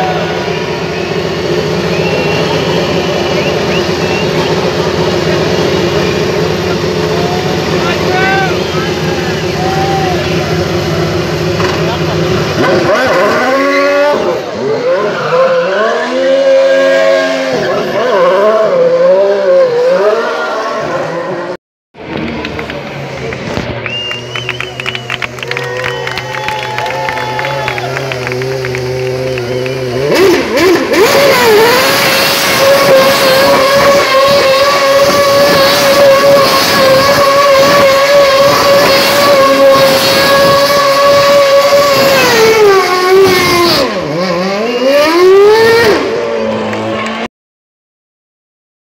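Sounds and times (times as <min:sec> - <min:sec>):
racing car engine revving: 0:00.0 - 0:47.3.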